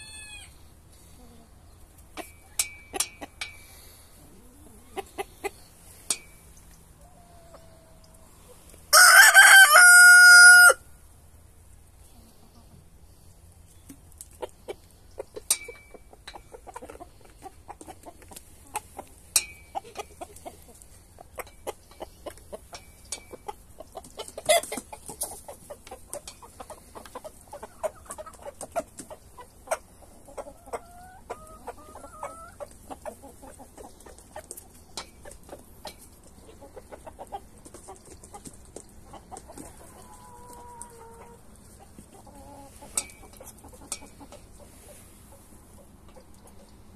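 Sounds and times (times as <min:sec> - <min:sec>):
hens clucking: 0:00.0 - 0:10.7, 0:11.8 - 0:46.9.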